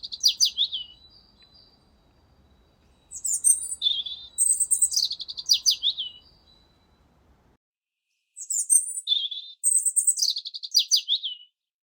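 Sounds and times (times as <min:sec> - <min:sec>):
songbird singing: 0:00.0 - 0:07.6, 0:08.4 - 0:11.6.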